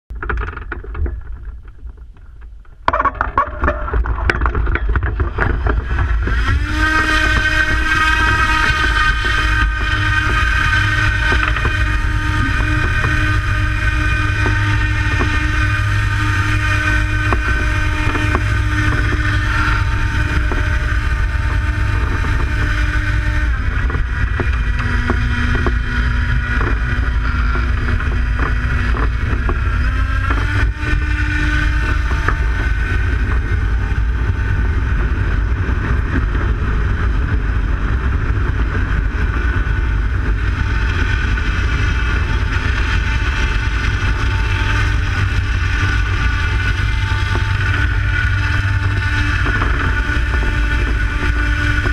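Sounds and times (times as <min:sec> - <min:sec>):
wind rushing on microphone: 0:00.1 - 0:51.9
electric propeller motor whine: 0:00.2 - 0:51.9.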